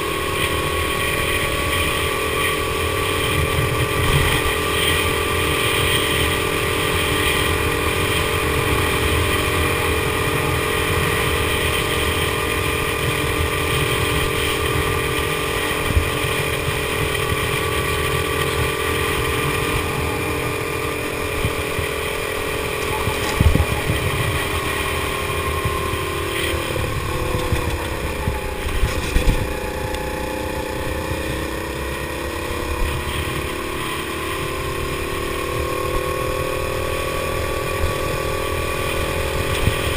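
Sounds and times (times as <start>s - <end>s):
go-kart engine running: 0.0s - 39.9s
wind rush on microphone: 0.0s - 39.9s.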